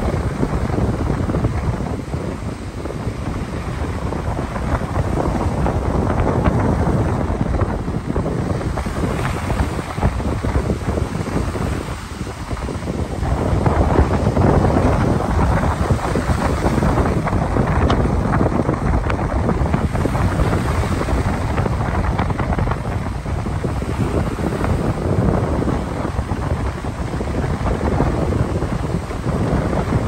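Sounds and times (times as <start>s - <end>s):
ocean surf breaking: 0.0s - 30.0s
wind buffeting microphone: 0.0s - 30.0s.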